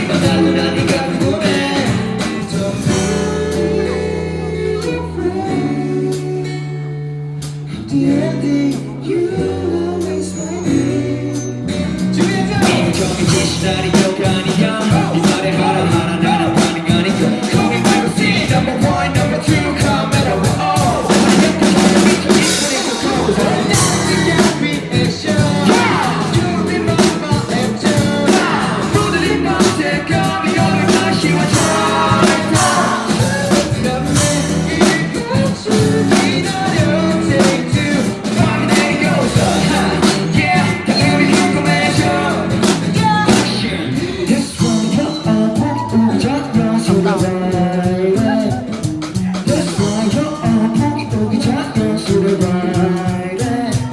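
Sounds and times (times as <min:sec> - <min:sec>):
person singing: 0:00.0 - 0:07.1, 0:07.7 - 0:53.9
live rock band playing: 0:00.0 - 0:53.9.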